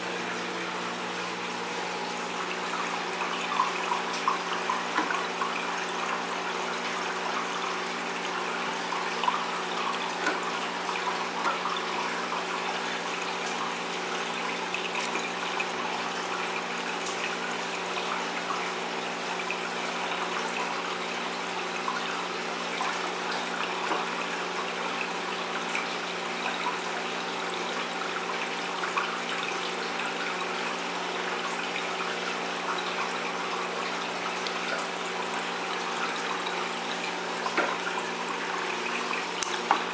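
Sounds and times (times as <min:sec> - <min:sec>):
filter water trickling and splashing: 0:00.0 - 0:39.9
pump humming: 0:00.0 - 0:39.9.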